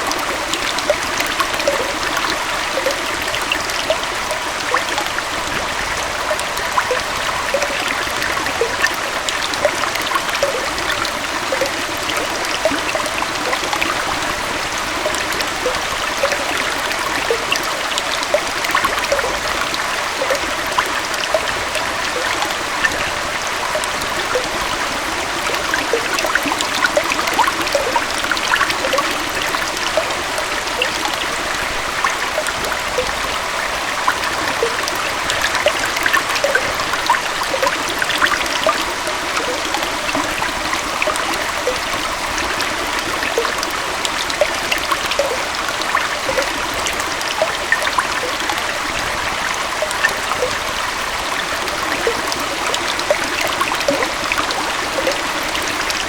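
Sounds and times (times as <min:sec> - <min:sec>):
water bubbling and splashing: 0:00.0 - 0:56.0
water flowing over rocks: 0:00.0 - 0:56.0.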